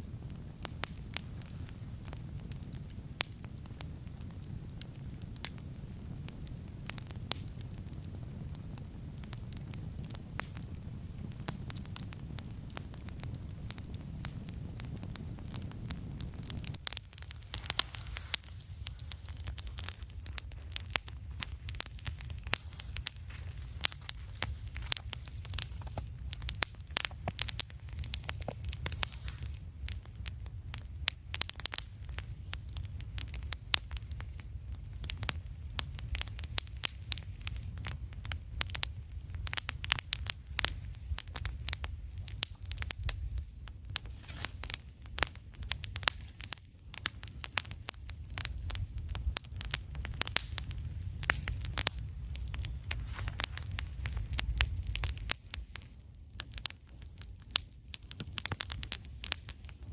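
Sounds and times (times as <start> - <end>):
campfire crackling and popping: 0.0 - 59.9
steady low rumble: 0.0 - 59.9.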